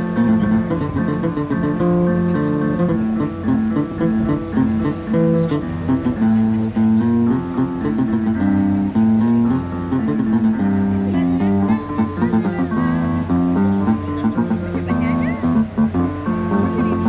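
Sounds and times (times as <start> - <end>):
bass line: 0.0 - 17.0
plucked electronic melody: 0.0 - 17.0.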